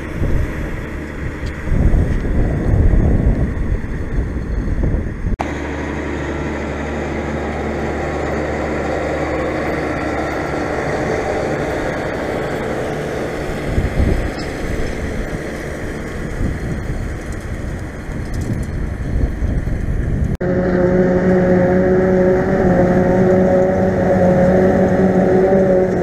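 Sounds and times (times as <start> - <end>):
wind buffeting microphone: 0.0 - 5.4, 9.3 - 26.0
tractor engine running: 0.0 - 26.0.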